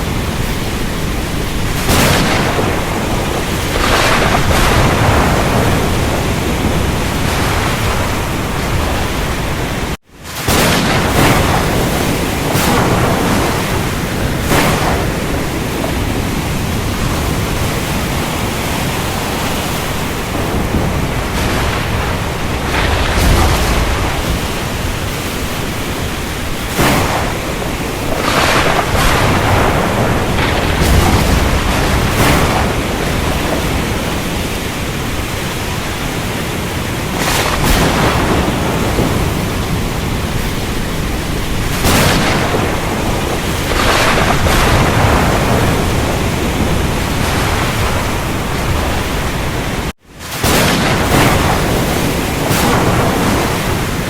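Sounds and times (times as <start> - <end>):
heavy rain hiss: 0.0 - 54.0
sharp thunder cracks: 0.0 - 54.0
thunder rumbling: 0.0 - 54.0.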